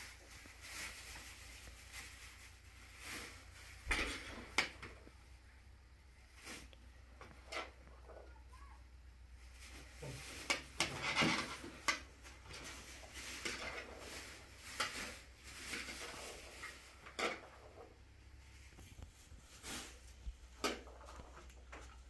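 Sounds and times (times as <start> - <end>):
plastic bags rustling: 0.0 - 5.2, 9.3 - 22.0
dried beans rattling: 0.0 - 5.3, 9.4 - 22.0.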